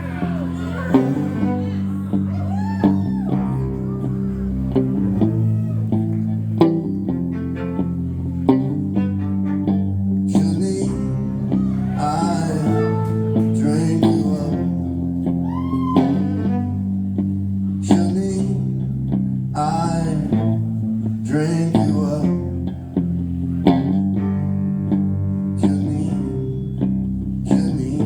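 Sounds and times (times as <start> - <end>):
bass guitar low notes: 0.0 - 28.0.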